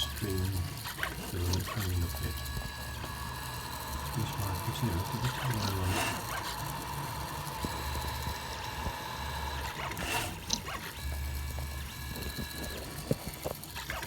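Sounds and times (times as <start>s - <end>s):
stepper motors high tones: 0.0s - 14.0s.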